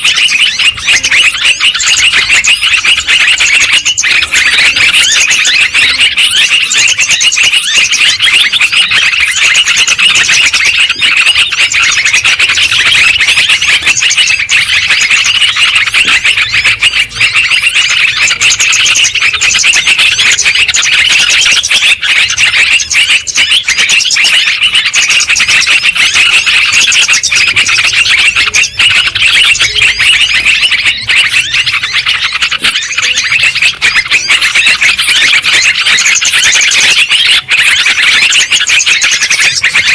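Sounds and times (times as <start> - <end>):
birds chattering noisily: 0.0 - 39.9.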